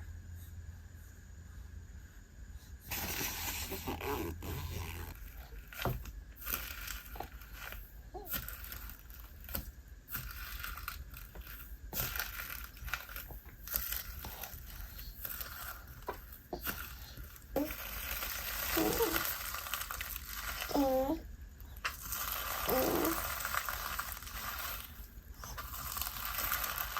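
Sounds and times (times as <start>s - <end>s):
hands squishing crunchy slime: 2.9s - 21.1s, 21.8s - 26.9s.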